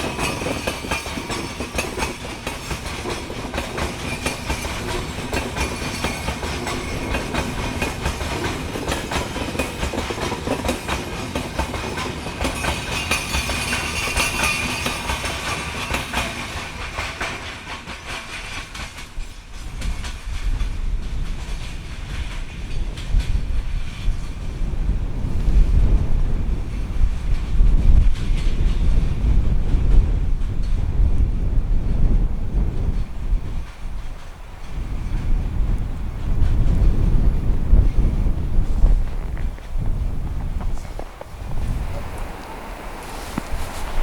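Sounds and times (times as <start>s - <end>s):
train wheels clattering: 0.0s - 44.0s
wind buffeting microphone: 0.0s - 44.0s.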